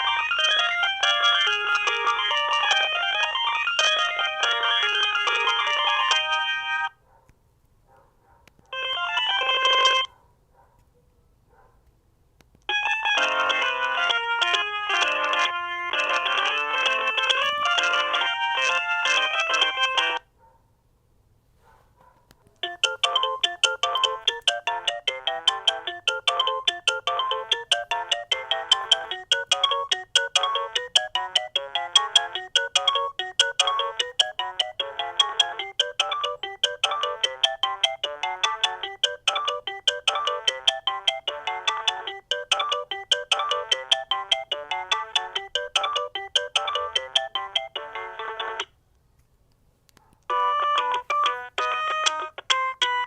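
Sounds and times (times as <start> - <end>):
polyphonic phone ringtone: 0.0 - 6.9, 8.8 - 10.1, 12.7 - 20.2, 22.6 - 48.7, 50.3 - 53.0.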